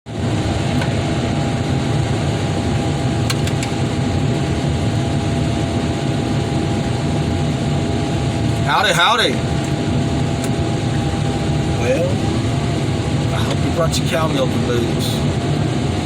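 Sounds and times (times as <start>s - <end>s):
vehicle engine running: 0.1s - 16.0s.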